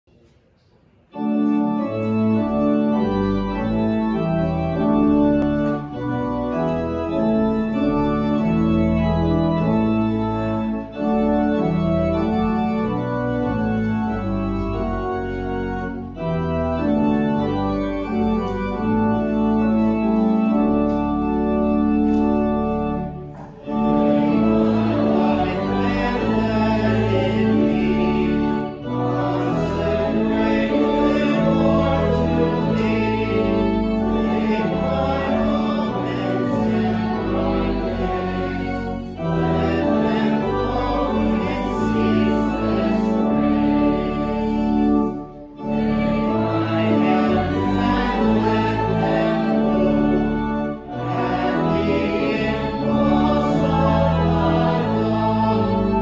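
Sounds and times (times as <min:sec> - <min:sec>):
church organ playing hymn chords: 0:01.1 - 0:56.0
congregation singing a hymn: 0:01.1 - 0:56.0.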